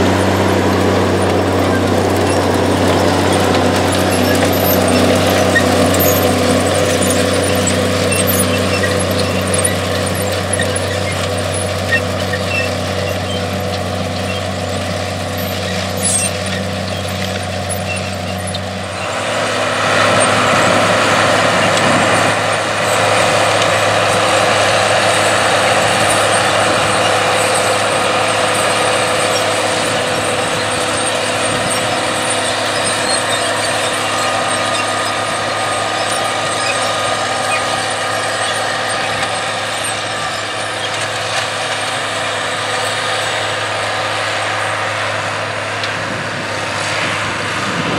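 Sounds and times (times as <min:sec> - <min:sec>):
diesel tractor engines running: 0:00.0 - 0:47.9.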